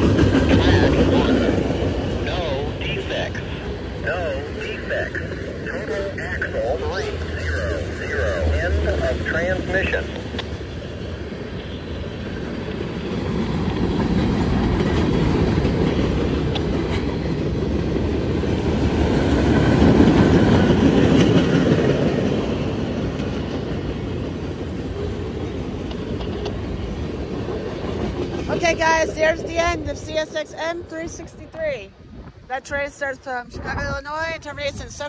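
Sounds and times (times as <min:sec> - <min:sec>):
rail clicks: 0:00.0 - 0:31.7
train wheels rumbling on rail: 0:00.0 - 0:35.0.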